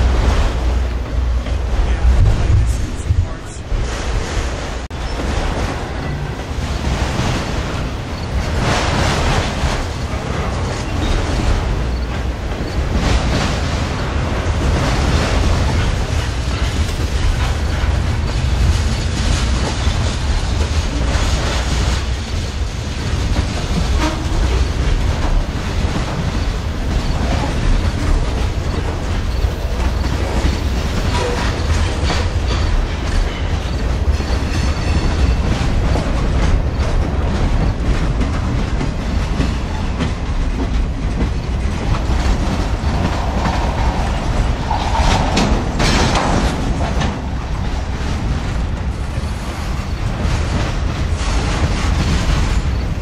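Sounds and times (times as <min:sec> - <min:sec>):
freight train rumbling past: 0:00.0 - 0:53.0
steel wheels clacking on rails: 0:00.0 - 0:53.0.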